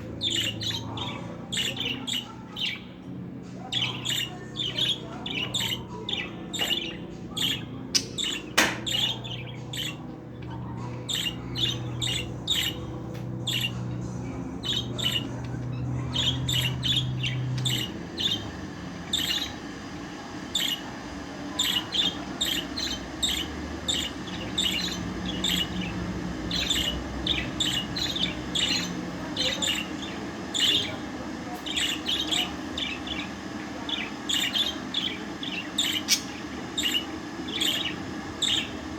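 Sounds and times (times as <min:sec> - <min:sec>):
budgerigar chirping and squawking: 0:00.0 - 0:19.8, 0:20.5 - 0:20.9, 0:21.5 - 0:38.9
steady low hum: 0:00.0 - 0:38.9.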